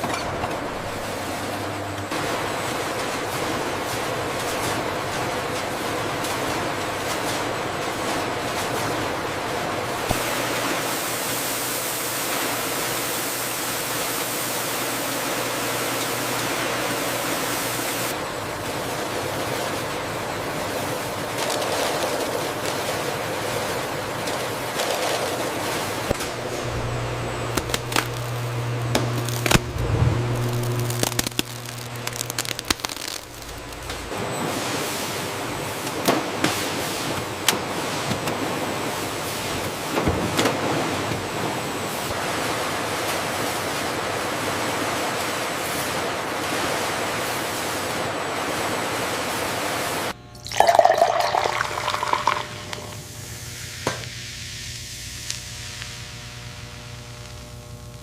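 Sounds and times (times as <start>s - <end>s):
machinery electric hum: 0.0s - 58.0s.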